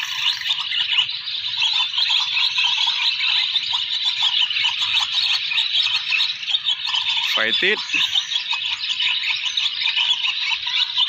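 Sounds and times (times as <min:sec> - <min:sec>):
flock of swallows chirping: 0:00.0 - 0:09.2.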